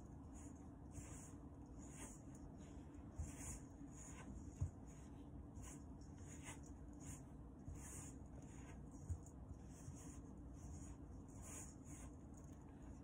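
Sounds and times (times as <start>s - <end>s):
dough squishing and rubbing: 0.0s - 13.0s.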